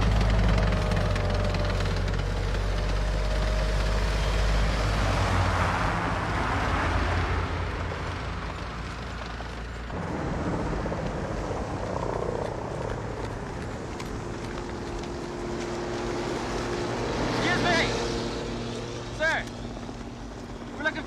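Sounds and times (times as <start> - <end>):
helicopter rotor and engine noise: 0.0 - 21.0.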